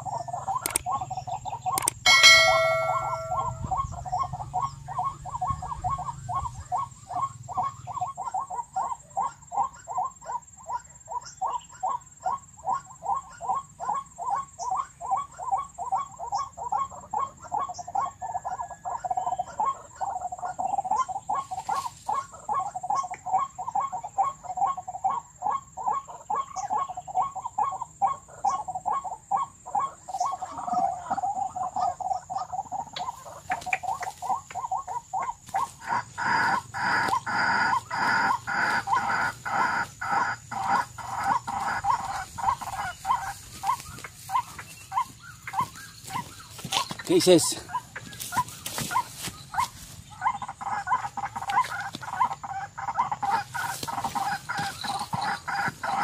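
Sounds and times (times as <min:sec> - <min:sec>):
waterhen calling: 0:00.0 - 0:10.1, 0:11.4 - 0:56.0.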